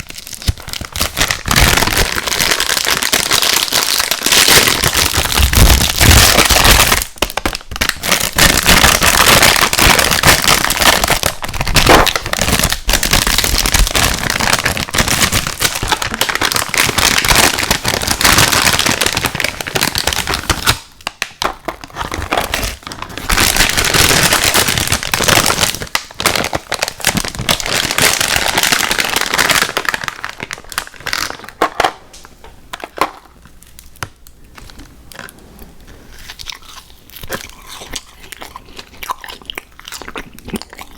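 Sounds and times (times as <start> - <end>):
plastic packaging crinkling: 0.0 - 35.2.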